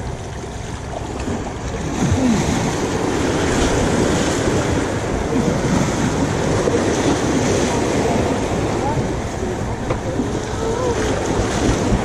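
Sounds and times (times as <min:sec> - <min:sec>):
choppy sea water splashing: 0:00.0 - 0:12.0
wind buffeting microphone: 0:00.0 - 0:12.0.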